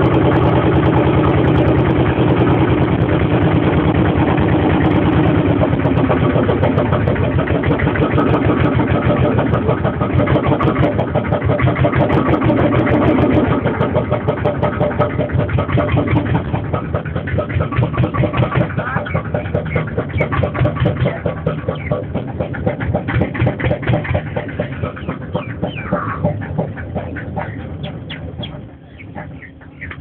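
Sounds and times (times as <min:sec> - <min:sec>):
engine chugging: 0:00.0 - 0:30.0.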